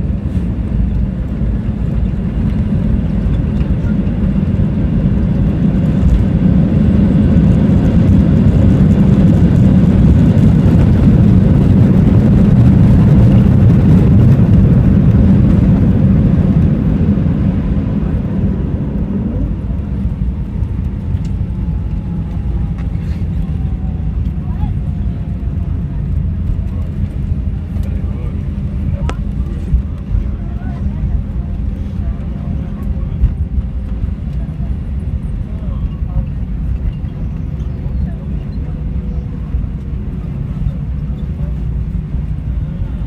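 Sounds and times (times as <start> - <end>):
airplane cabin engine rumble: 0.0 - 43.0.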